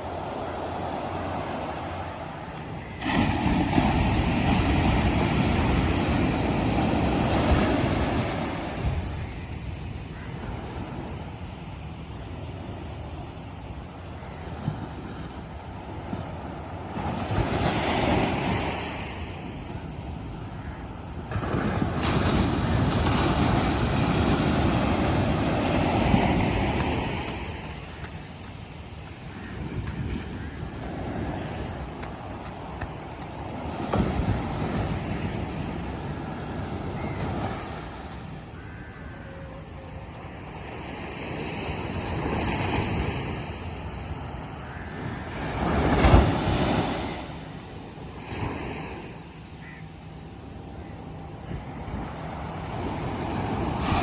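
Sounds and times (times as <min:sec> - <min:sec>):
ocean surf on a beach: 0:00.0 - 0:54.0.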